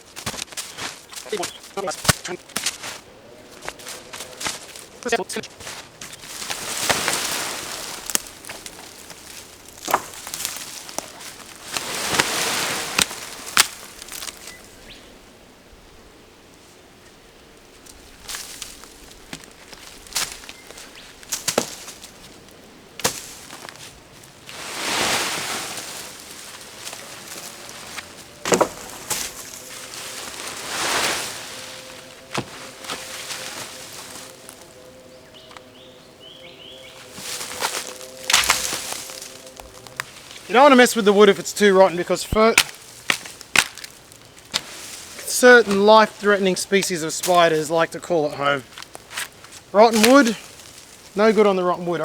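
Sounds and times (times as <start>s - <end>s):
wooden sticks cracking and knocking: 0.0s - 14.6s, 17.8s - 34.7s, 37.0s - 47.9s, 48.6s - 52.0s
brush rustling: 0.0s - 52.0s.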